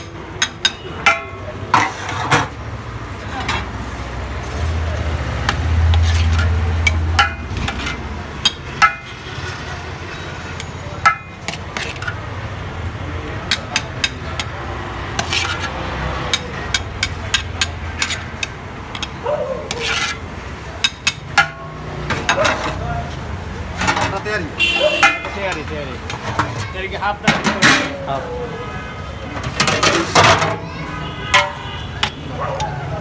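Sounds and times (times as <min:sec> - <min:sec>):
metal utensils clinking: 0:00.0 - 0:02.6, 0:03.2 - 0:28.4, 0:29.2 - 0:33.0.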